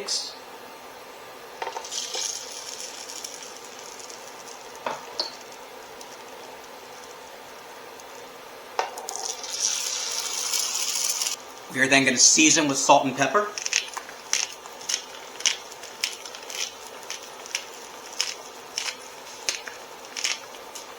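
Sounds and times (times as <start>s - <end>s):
eggs cracking: 1.6s - 11.5s, 12.8s - 20.9s
eggs sizzling in hot oil: 1.6s - 11.7s, 12.5s - 20.9s.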